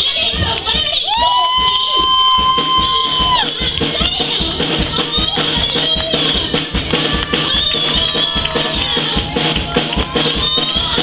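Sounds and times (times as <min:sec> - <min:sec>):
drum kit beat: 0:00.0 - 0:11.0
pitched instruments: 0:00.0 - 0:11.0.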